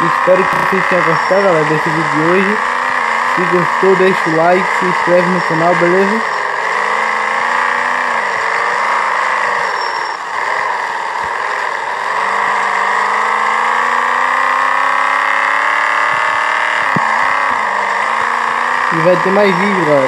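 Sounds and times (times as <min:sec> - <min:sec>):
car engine revving up: 0:00.0 - 0:20.0.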